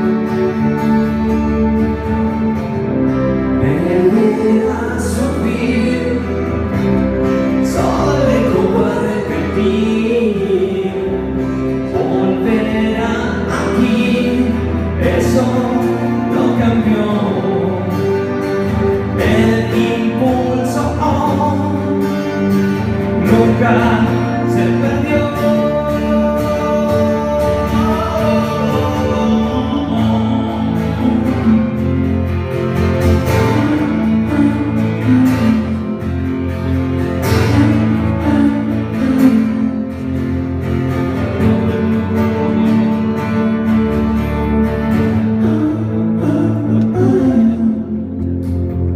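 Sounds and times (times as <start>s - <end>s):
bass guitar: 0.0s - 48.9s
electric guitar: 0.0s - 48.9s.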